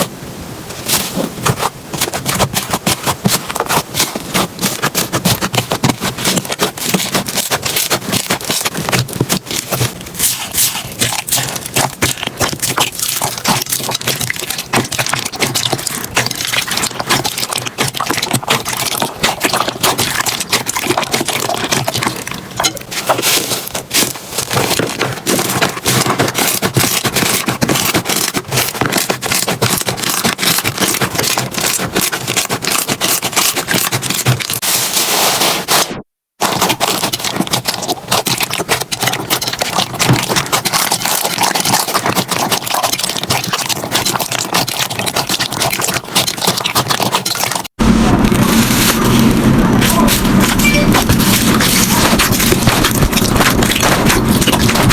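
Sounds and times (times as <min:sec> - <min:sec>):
slime crackling and popping: 0:00.9 - 0:54.9.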